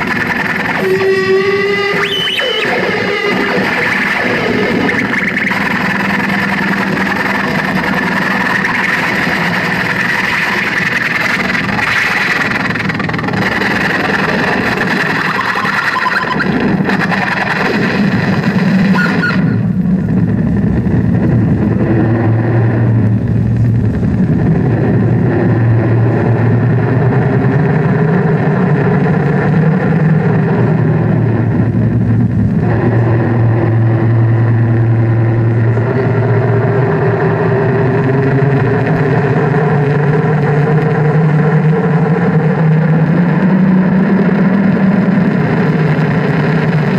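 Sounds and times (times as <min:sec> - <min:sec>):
harsh electronic noise: 0:00.0 - 0:46.9
low drone: 0:00.0 - 0:46.9.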